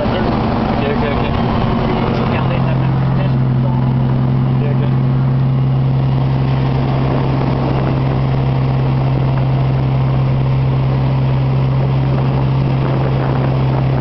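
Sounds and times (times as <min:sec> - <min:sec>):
road noise: 0:00.0 - 0:14.0
vehicle engine droning: 0:00.0 - 0:14.0.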